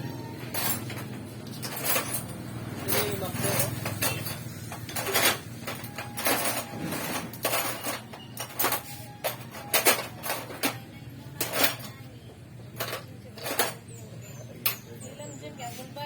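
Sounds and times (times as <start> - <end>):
clinks of hard objects handled: 0.3 - 15.0.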